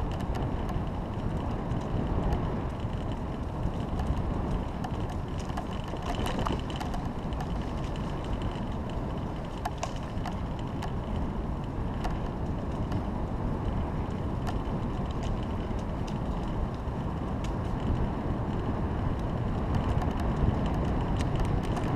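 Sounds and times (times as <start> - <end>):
bicycle rolling on asphalt: 0.0 - 21.9
bike clicks and rattles: 0.0 - 21.9.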